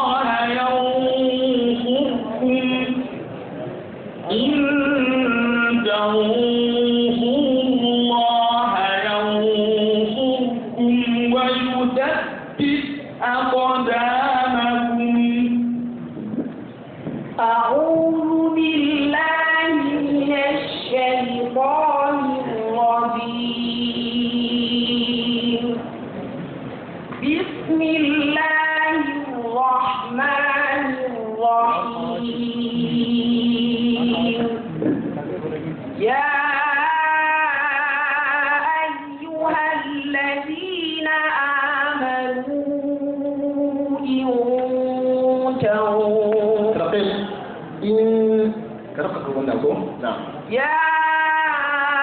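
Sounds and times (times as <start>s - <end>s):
person chanting melodic recitation: 0.0s - 3.2s, 4.2s - 16.1s, 17.4s - 25.8s, 27.3s - 35.0s, 36.0s - 48.8s.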